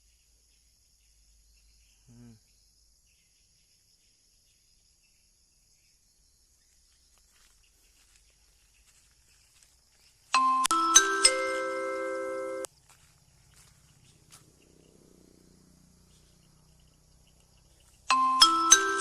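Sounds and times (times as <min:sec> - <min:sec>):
faint insect chorus: 0:00.0 - 0:10.4, 0:12.6 - 0:19.0.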